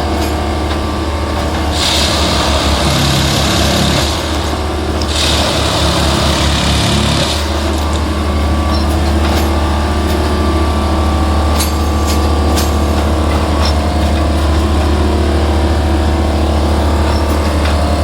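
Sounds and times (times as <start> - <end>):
machine engine droning: 0.0 - 18.0.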